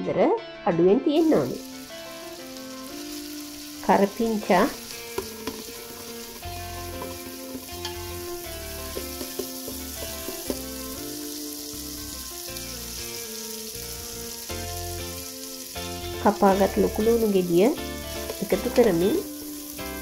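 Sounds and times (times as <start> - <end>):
background music: 0.0 - 20.0
food sizzling in a pot: 1.2 - 20.0.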